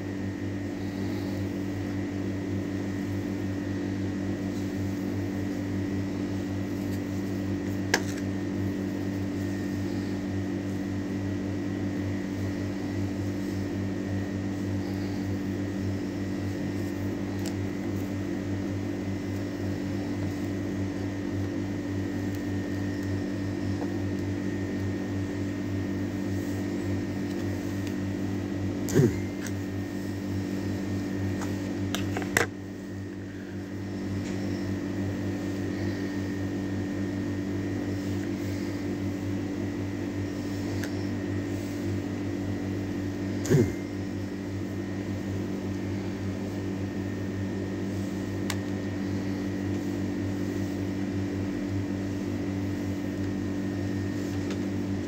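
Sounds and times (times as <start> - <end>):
small motor humming: 0.6 - 55.0.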